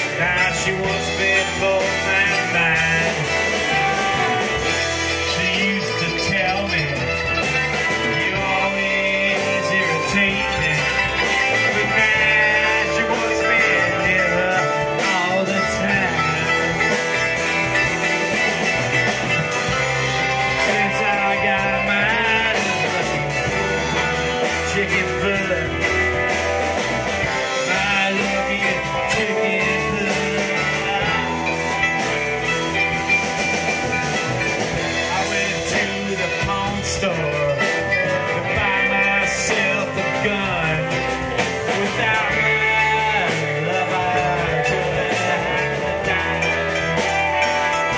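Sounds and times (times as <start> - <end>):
blues-rock band playing: 0.0 - 47.9
man singing: 0.0 - 47.9.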